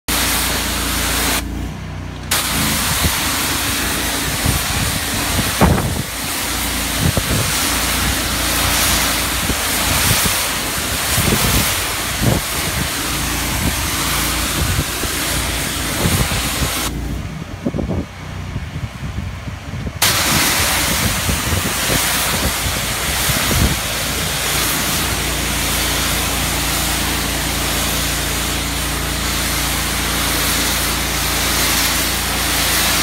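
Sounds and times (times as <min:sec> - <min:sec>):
pressure washer spraying concrete: 0:00.0 - 0:18.4, 0:20.0 - 0:33.0
engine humming: 0:00.1 - 0:33.0.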